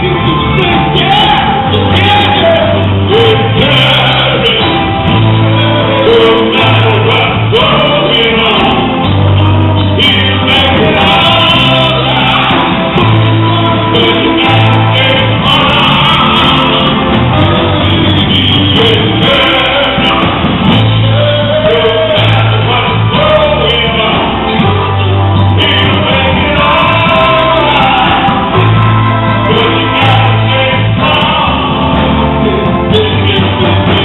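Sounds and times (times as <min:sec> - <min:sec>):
driving bass line: 0:00.0 - 0:34.0
gospel band and singers: 0:00.0 - 0:34.0.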